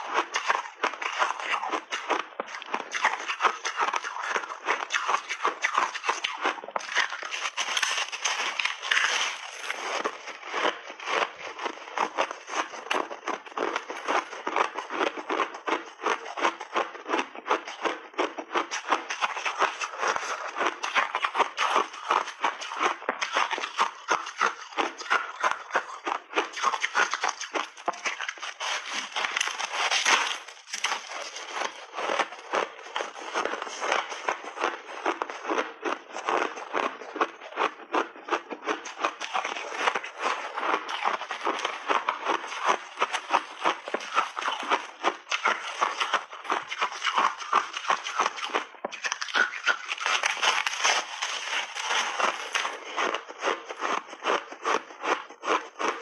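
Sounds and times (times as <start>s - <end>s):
ice crunching between teeth: 0.0s - 56.0s.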